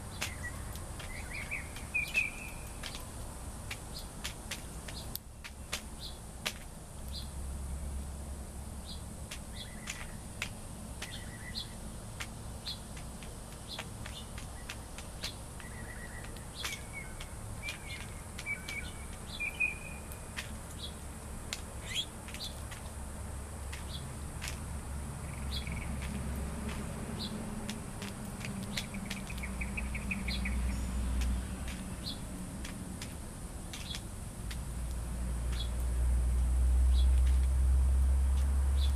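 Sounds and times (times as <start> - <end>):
birds chirping: 0.0 - 7.4, 8.8 - 23.0, 23.6 - 24.6, 25.2 - 34.6, 35.4 - 37.5.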